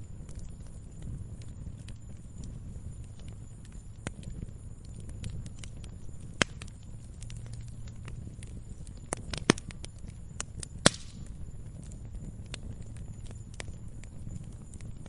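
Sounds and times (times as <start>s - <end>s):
campfire crackling: 0.0s - 15.0s
sharp pops of burning wood: 0.1s - 15.0s.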